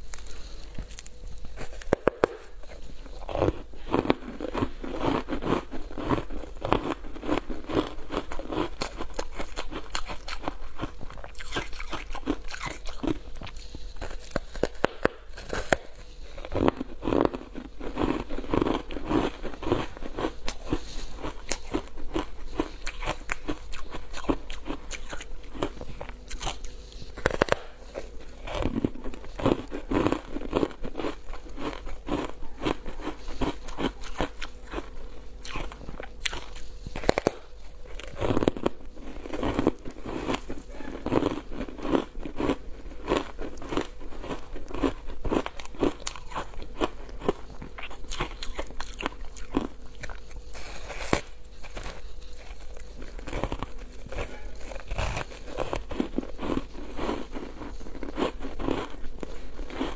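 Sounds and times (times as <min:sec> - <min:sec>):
crunchy ice chewing: 0:00.0 - 0:59.9.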